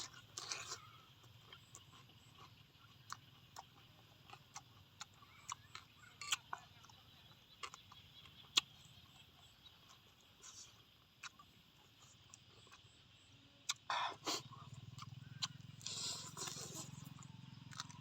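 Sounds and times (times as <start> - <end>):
chewing crunchy food: 0.0 - 18.0.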